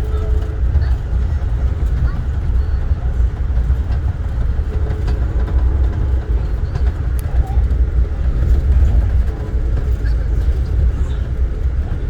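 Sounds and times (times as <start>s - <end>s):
train rumble on track: 0.0s - 12.0s.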